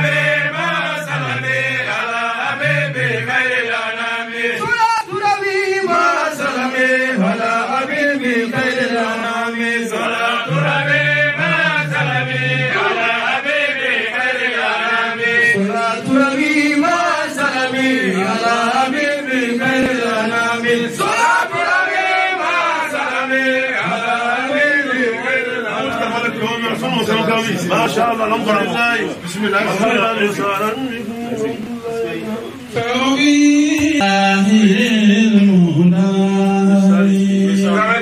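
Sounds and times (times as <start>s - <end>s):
man chanting into a microphone: 0.0s - 13.8s, 14.8s - 21.6s, 22.8s - 38.0s
men chanting together: 0.0s - 38.0s.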